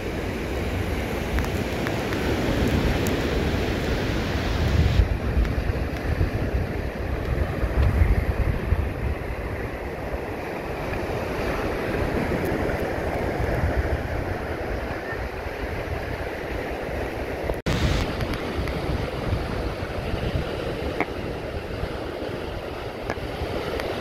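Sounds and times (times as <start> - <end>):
surf washing over sand: 0.0 - 24.0
wind buffeting microphone: 0.0 - 24.0.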